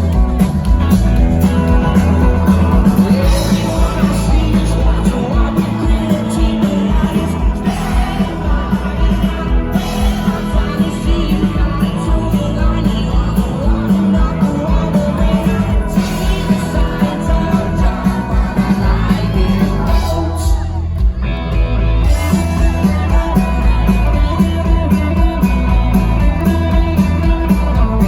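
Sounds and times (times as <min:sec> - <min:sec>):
person singing: 0:00.0 - 0:21.0, 0:22.0 - 0:28.0
rock band playing: 0:00.0 - 0:28.0
steady drum beat: 0:00.0 - 0:28.0.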